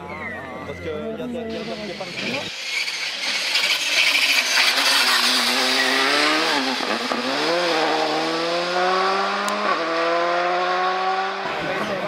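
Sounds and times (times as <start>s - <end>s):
rally car engine accelerating: 2.2s - 12.0s.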